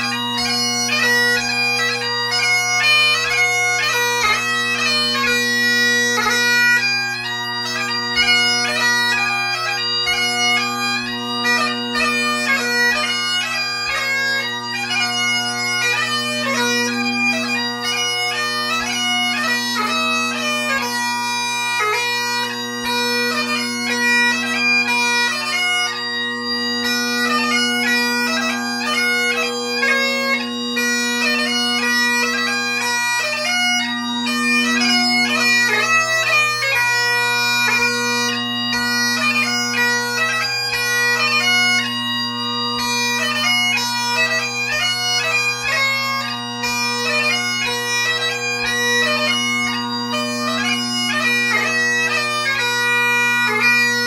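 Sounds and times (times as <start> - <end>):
bagpipe playing: 0.0 - 54.0.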